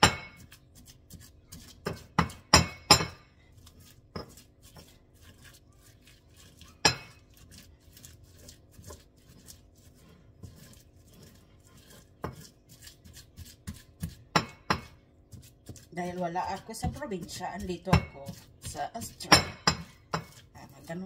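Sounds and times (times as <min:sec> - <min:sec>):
pestle clinking on mortar: 0:00.0 - 0:03.3, 0:04.1 - 0:05.6, 0:06.8 - 0:09.5, 0:10.4 - 0:21.0
pestle pounding and scraping: 0:00.0 - 0:21.0.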